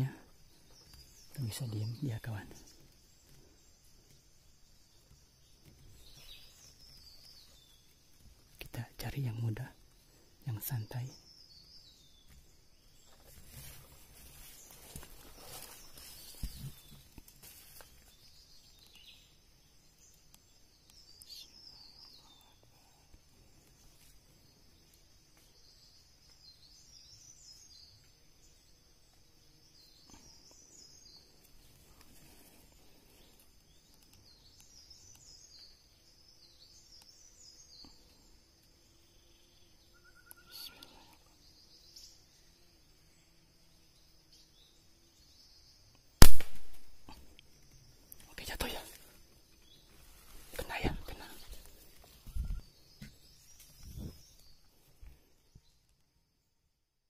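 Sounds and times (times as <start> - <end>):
insect hum: 0.0 - 57.0.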